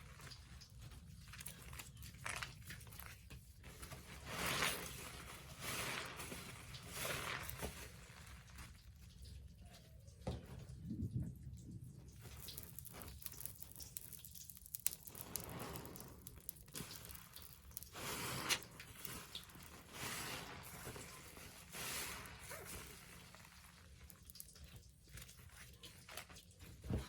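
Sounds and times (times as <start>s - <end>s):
wet sponge squishing: 0.0s - 10.6s, 12.0s - 27.0s.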